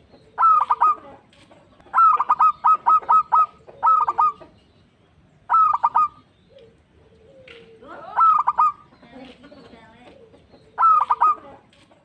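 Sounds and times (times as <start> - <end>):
dove cooing: 0.0 - 4.6, 5.4 - 12.0.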